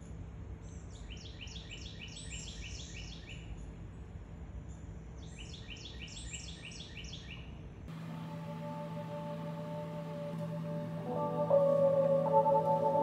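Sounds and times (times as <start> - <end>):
low outdoor background noise: 0.0 - 13.0
songbird chirping: 0.6 - 3.8, 4.7 - 13.0.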